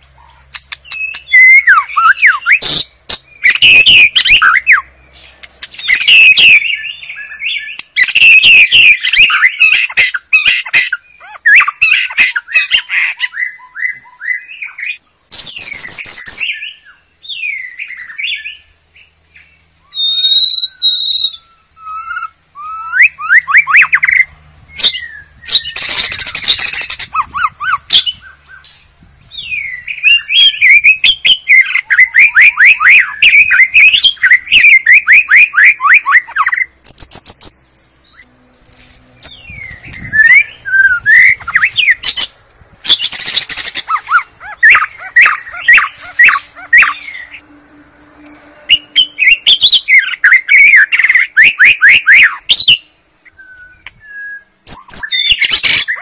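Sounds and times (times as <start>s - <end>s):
bird singing varied whistles and trills: 0.0s - 56.0s.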